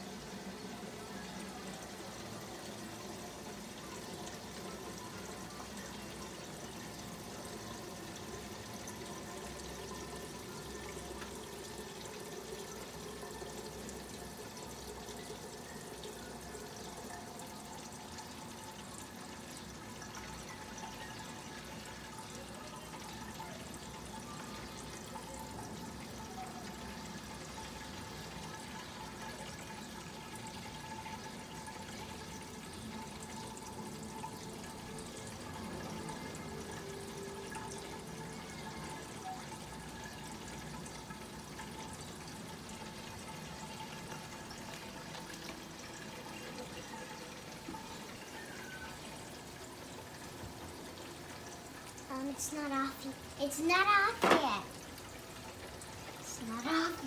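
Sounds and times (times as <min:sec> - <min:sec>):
pouring water: 0:00.0 - 0:57.0.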